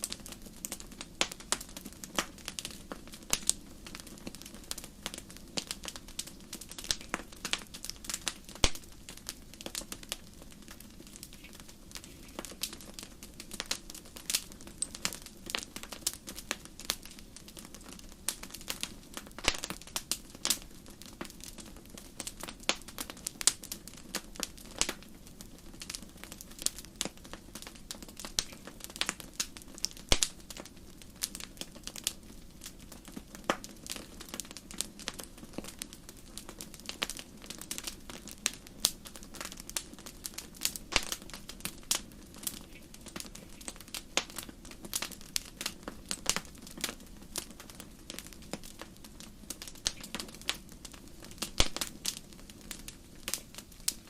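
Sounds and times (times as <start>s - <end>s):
campfire pops and snaps: 0.0s - 54.0s.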